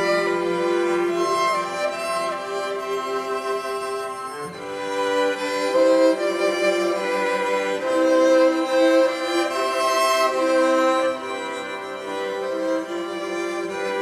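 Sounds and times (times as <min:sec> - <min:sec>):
bowed strings playing chords: 0:00.0 - 0:14.0.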